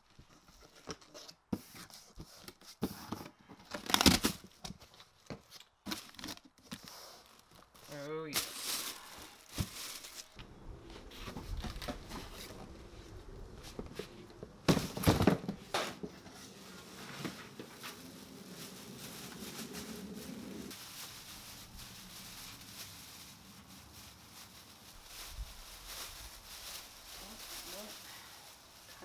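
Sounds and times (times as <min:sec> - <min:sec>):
cardboard rustling and tearing: 0:00.4 - 0:10.4, 0:11.0 - 0:29.0.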